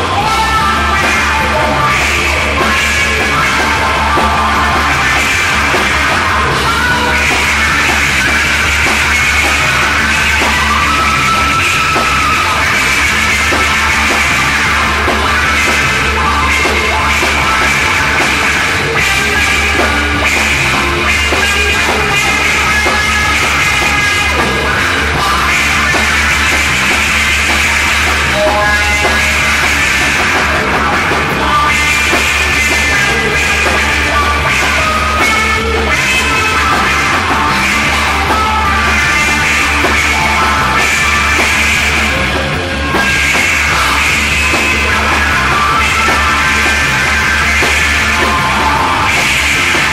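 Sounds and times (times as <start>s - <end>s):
psychedelic rock band playing: 0.0s - 49.9s.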